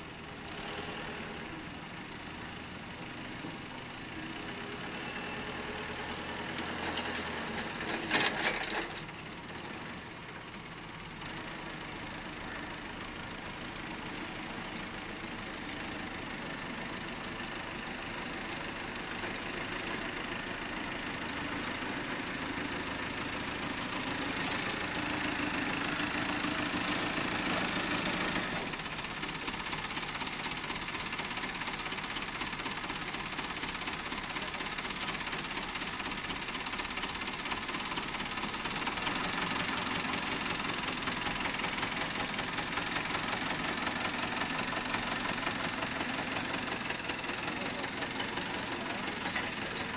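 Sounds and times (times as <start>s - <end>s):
forklift engine clattering: 5.9s - 16.9s, 17.7s - 49.9s.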